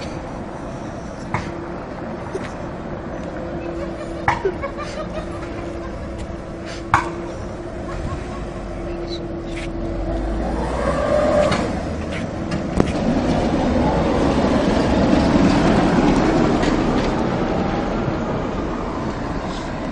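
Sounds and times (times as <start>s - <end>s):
tram rumbling on rails: 0.0s - 19.9s.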